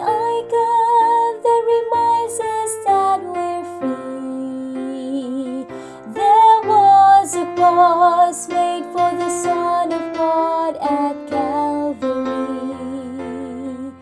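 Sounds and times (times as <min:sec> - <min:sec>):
woman singing a hymn: 0:00.0 - 0:14.0.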